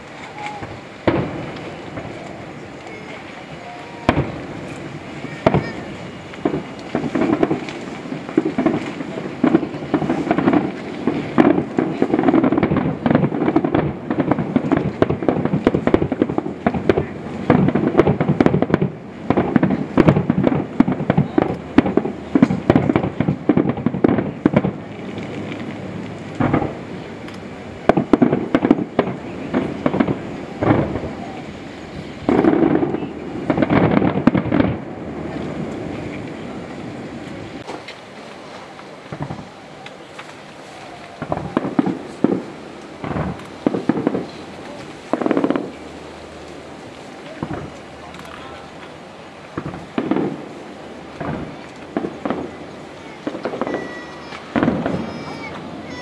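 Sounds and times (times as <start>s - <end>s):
fireworks bangs: 0.0s - 56.0s
fireworks crackle: 0.0s - 56.0s.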